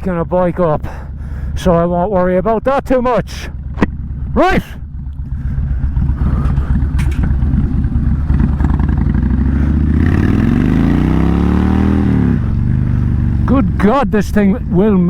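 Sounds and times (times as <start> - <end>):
motorcycle accelerating: 0.0 - 15.0.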